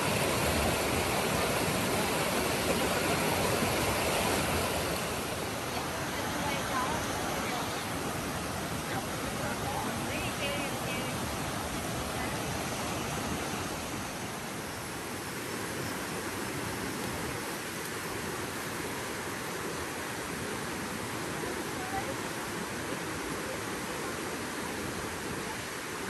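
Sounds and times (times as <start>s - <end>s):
stream rushing over rapids: 0.0s - 26.0s.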